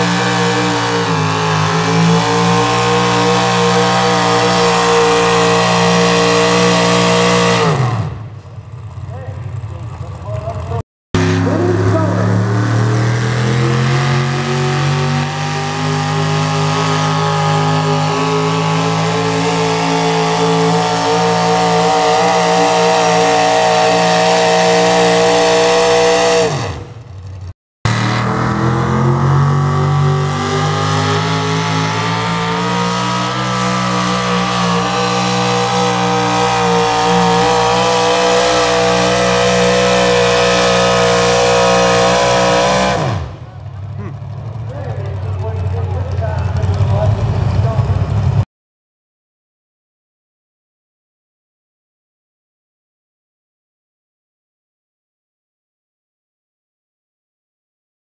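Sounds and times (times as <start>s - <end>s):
truck engine at high revs: 0.0s - 48.4s.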